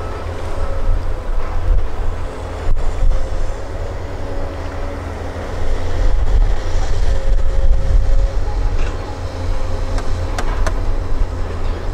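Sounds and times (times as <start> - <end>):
excavator diesel rumble: 0.0 - 11.9
hydraulic whine: 0.0 - 11.9.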